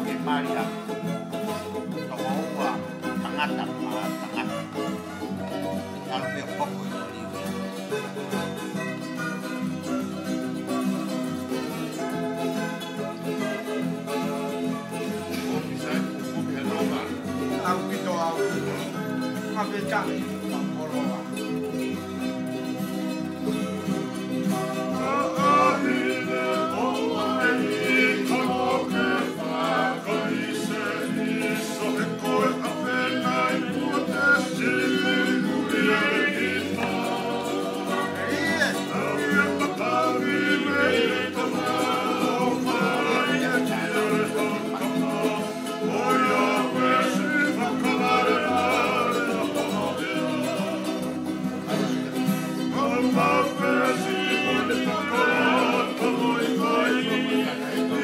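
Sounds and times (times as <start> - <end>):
plucked and strummed strings: 0.0 - 58.0
voices singing: 0.0 - 58.0.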